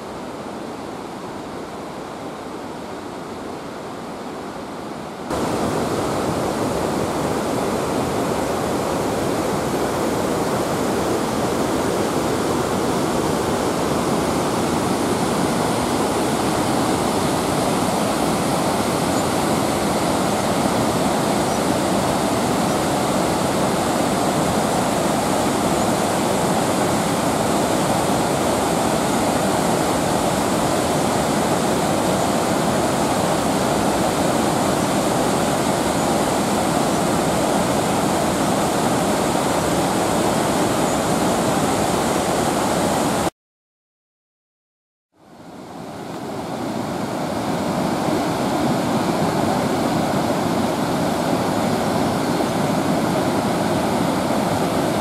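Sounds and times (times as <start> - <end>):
river rapids and waterfall rushing: 0.0 - 43.3, 45.3 - 55.0.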